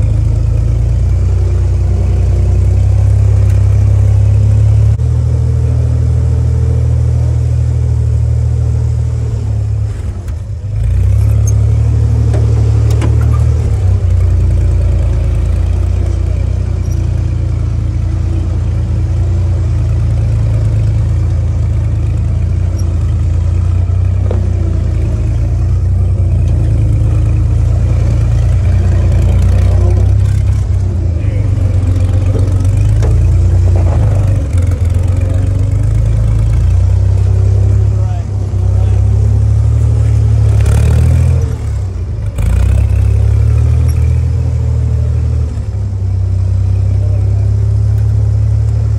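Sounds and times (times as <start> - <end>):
jeep engine driving on dirt: 0.0 - 48.9.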